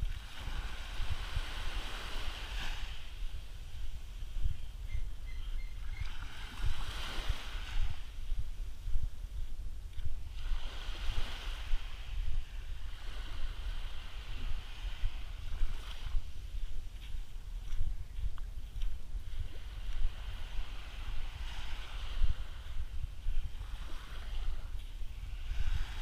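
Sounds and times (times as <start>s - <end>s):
waves washing on sand: 0.0s - 4.5s, 6.0s - 8.4s, 10.0s - 17.8s, 18.7s - 26.0s
wind on microphone: 0.0s - 26.0s.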